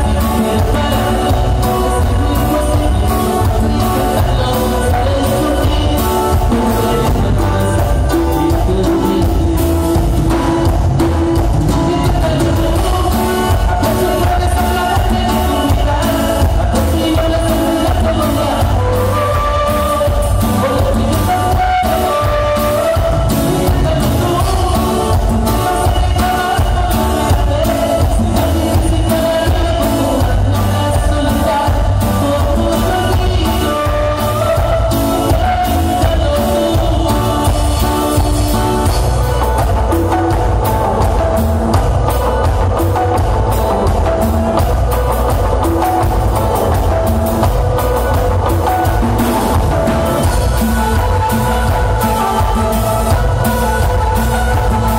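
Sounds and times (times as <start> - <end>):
latin dance band: 0.0 - 54.9
person singing: 0.0 - 54.9.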